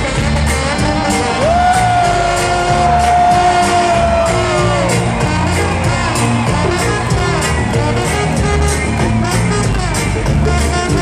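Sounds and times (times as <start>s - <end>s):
bass pattern: 0.0s - 11.0s
live band music: 0.0s - 11.0s.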